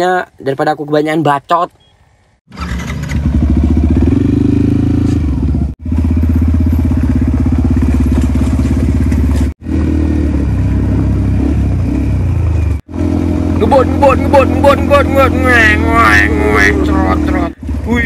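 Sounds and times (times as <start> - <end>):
dirt bike engine running: 2.5 - 18.0.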